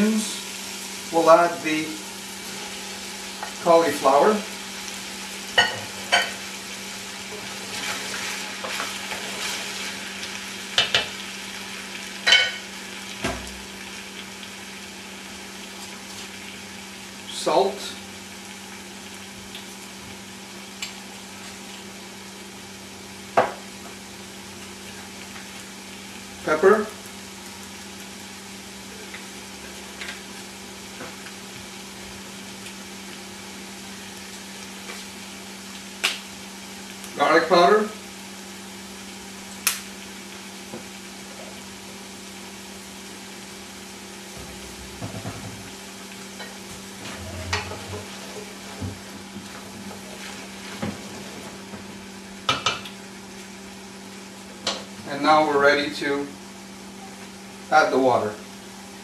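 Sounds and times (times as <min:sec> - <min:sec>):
vegetables sizzling in oil: 0:00.0 - 0:59.0.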